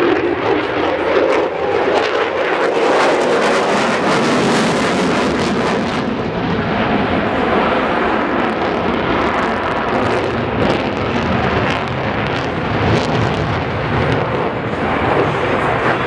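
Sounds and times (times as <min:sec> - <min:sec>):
jet engine thrust roar: 0:00.0 - 0:16.0.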